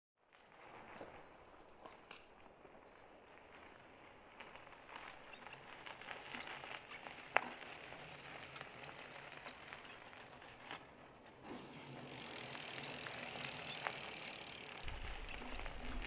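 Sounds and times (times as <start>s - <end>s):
bike tyres rolling on icy road: 0.2s - 16.0s.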